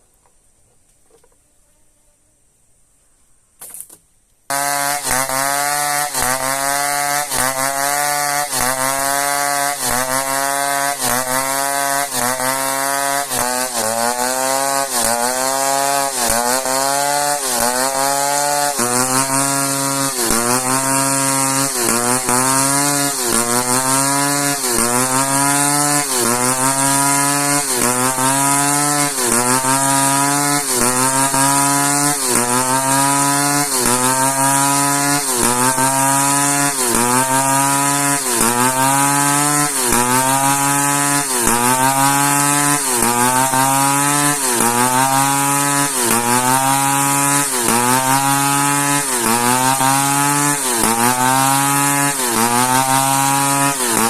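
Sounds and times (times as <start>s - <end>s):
chainsaw cutting log: 3.6s - 54.0s.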